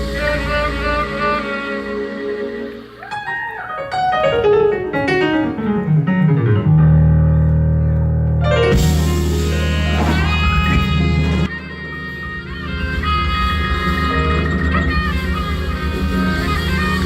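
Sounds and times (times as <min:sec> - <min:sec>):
jazz keyboard run: 0:00.0 - 0:17.0.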